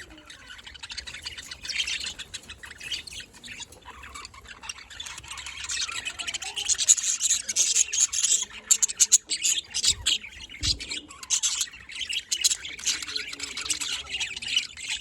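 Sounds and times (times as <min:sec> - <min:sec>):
budgerigars chattering: 0:00.0 - 0:15.0.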